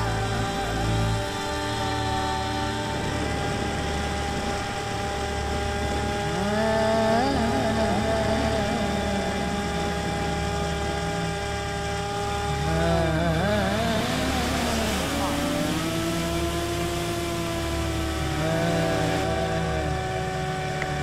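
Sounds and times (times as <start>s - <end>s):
electric motor and propeller whine: 0.0s - 21.0s
wind rumble on microphone: 0.0s - 21.0s.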